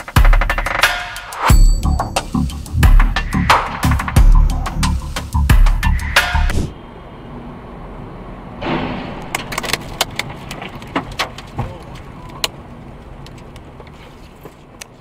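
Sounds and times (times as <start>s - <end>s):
car road noise rumble: 2.2s - 15.0s.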